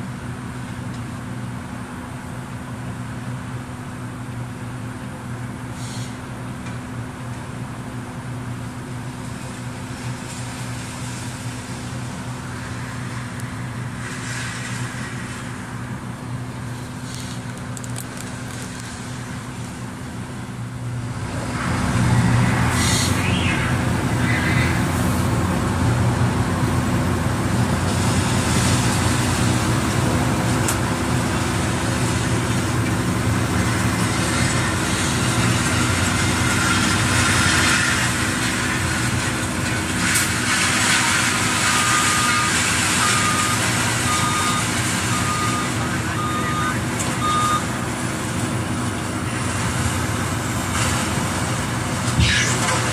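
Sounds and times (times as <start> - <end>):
diesel truck engine: 0.0 - 52.9.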